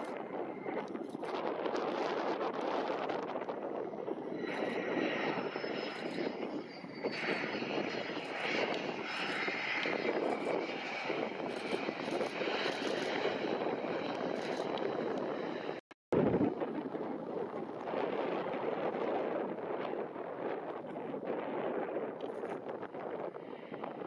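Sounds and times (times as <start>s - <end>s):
jet engines whining: 0.0s - 20.1s.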